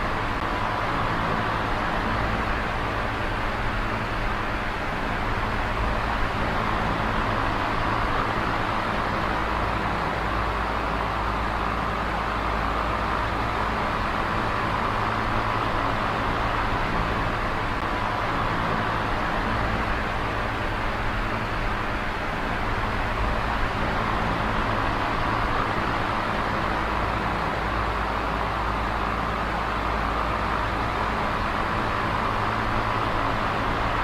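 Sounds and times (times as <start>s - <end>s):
electric fan running: 0.0s - 34.0s.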